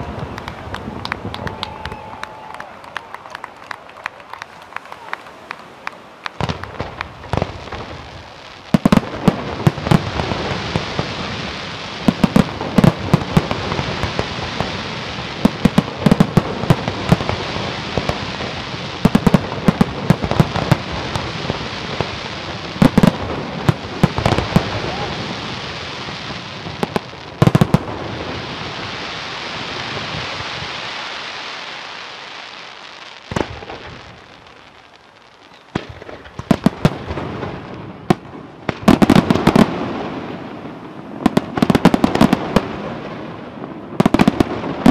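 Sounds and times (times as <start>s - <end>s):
fireworks bangs: 0.0s - 44.9s
fireworks crackling hiss: 0.0s - 44.9s.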